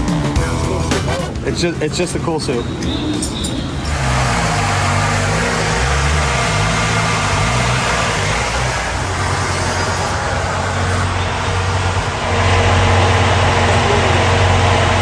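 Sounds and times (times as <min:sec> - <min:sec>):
car engine running at low revs: 0:00.0 - 0:15.0
loud noise: 0:00.0 - 0:15.0.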